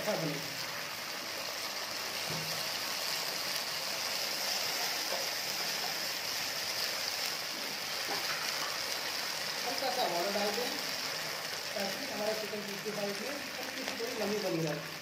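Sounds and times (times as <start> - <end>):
hot oil sizzling in a wok: 0.0 - 15.0.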